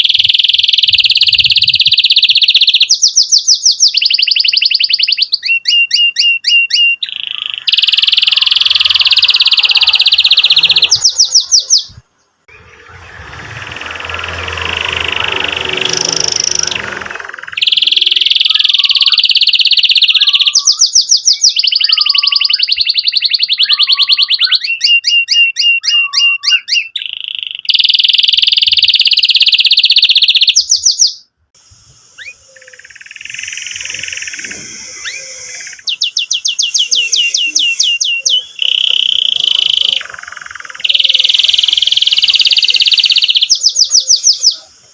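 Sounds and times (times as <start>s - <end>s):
canary singing trills: 0.0s - 31.4s, 32.1s - 44.9s.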